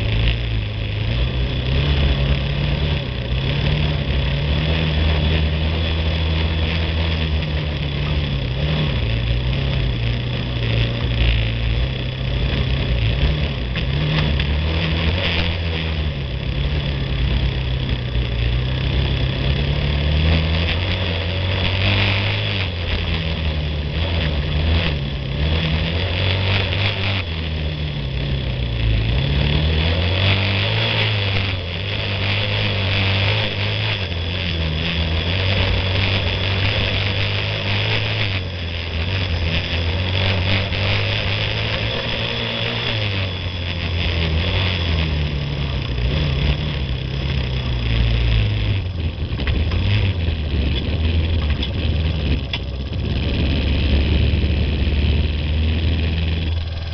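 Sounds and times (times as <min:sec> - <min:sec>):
quad engine running: 0:00.0 - 0:56.9
wind and ground noise: 0:00.0 - 0:56.9.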